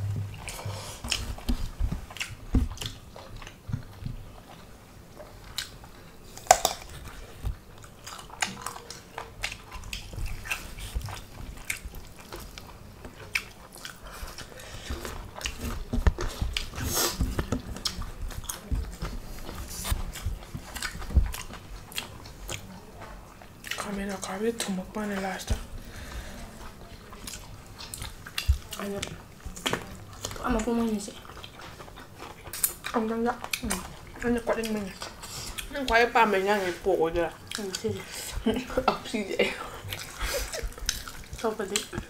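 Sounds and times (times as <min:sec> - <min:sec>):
people chewing and biting food: 0:00.0 - 0:42.0
crunches and clicks of eating: 0:00.2 - 0:36.4, 0:37.3 - 0:42.0.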